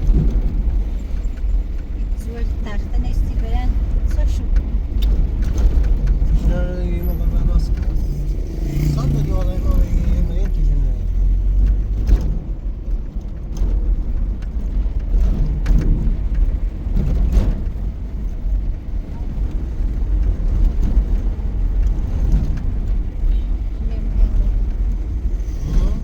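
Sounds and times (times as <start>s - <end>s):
knocks and rattles: 0.0s - 26.0s
low rumble: 0.0s - 26.0s.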